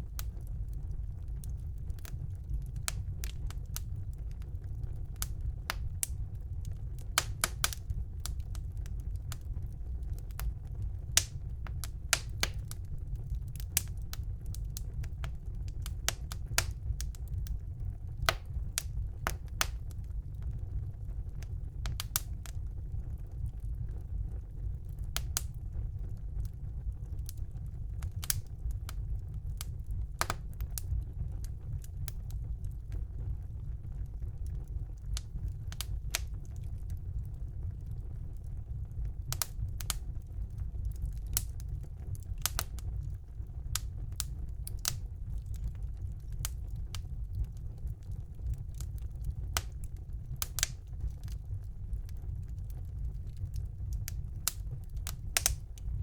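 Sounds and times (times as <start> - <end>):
burning logs crackling and popping: 0.0 - 56.0
fire flames rumbling: 0.0 - 56.0.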